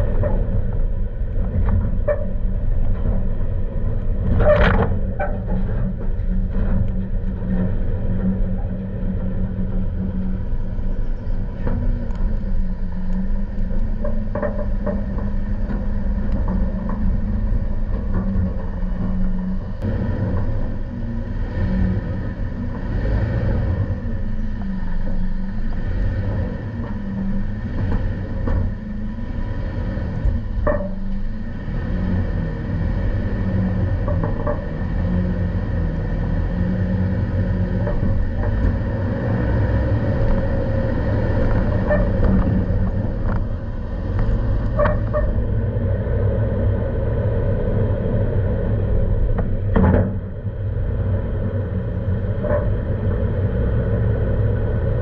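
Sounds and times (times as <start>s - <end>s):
truck knocks and squeaks: 0.0s - 46.4s, 52.2s - 53.7s
truck engine rumble: 0.0s - 55.0s.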